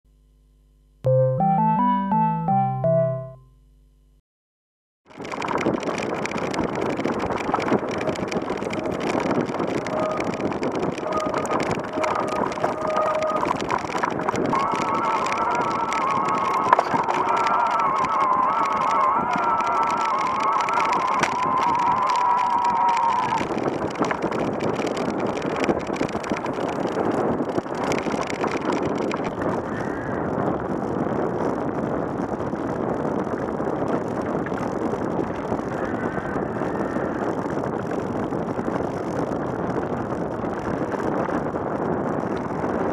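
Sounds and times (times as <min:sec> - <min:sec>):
bike rattling over bumps: 0:05.1 - 0:42.9
bike tyres in snow: 0:05.1 - 0:42.9
wind buffeting microphone: 0:05.1 - 0:42.9.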